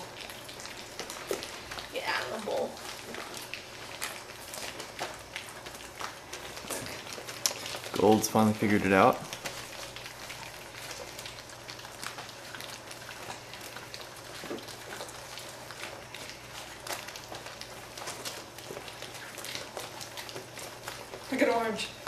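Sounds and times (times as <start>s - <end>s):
puppies lapping food: 0.0s - 22.0s.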